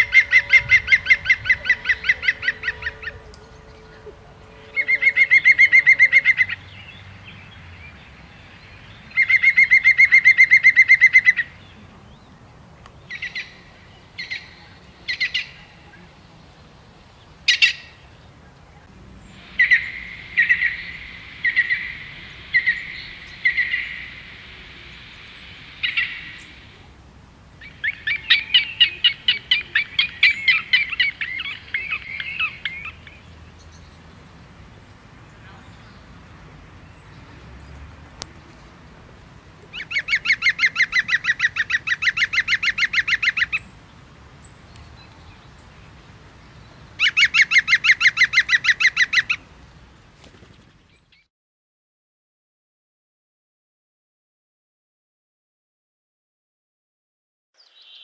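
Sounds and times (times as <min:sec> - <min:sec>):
songbirds calling and singing: 0:00.0 - 0:51.3, 0:57.6 - 0:58.0.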